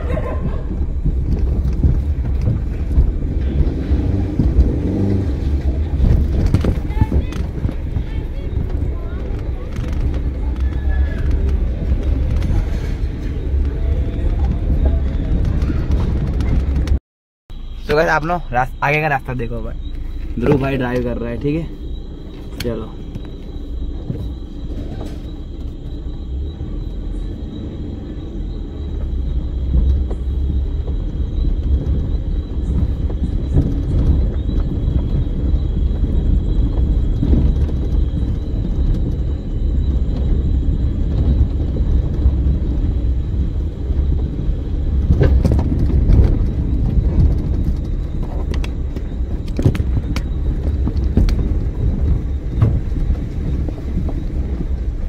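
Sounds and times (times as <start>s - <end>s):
knocks and rattles: 0.0s - 17.0s, 19.8s - 55.0s
car engine and tyres rumbling: 0.0s - 55.0s.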